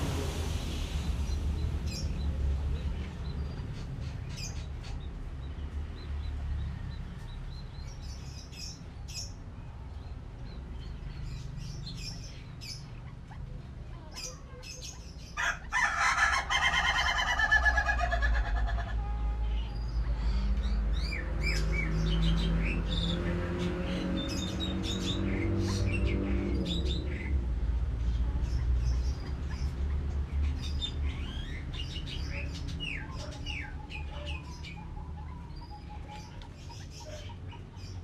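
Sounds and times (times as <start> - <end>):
small birds chirping: 0.5 - 38.0.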